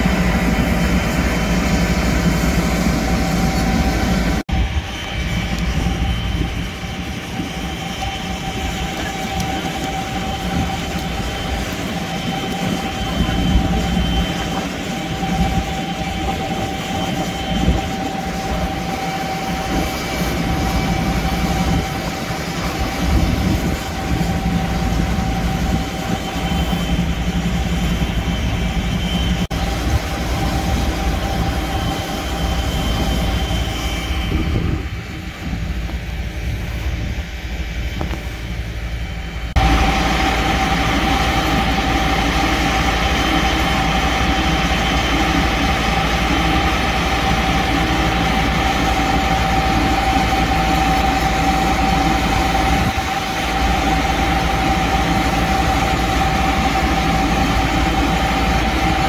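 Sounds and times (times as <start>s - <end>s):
diesel engine rumble: 0.0s - 59.0s
high machinery whine: 0.0s - 59.0s.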